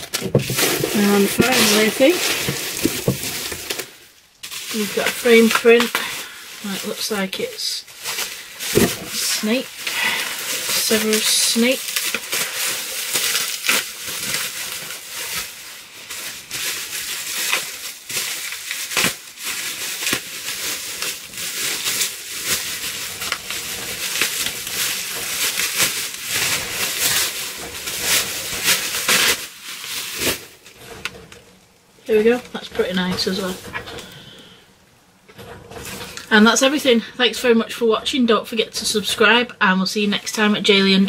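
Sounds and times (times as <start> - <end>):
packaging wrap crinkling: 0.0 - 36.9.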